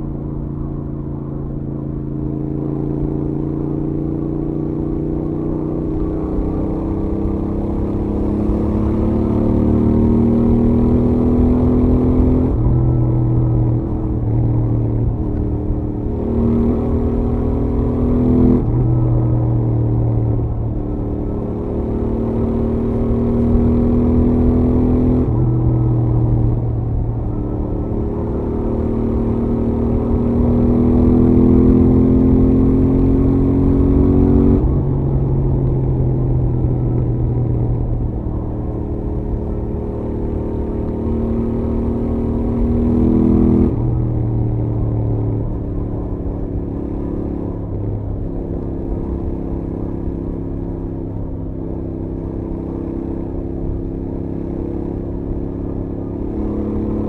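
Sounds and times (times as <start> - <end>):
road and wind rumble: 0.0 - 57.0
motorcycle engine revving: 2.6 - 51.6, 52.2 - 57.0.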